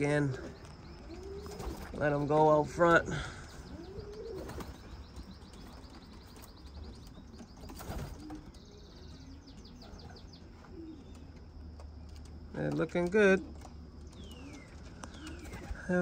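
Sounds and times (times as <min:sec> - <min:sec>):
pigeons cooing softly: 0:00.0 - 0:16.0.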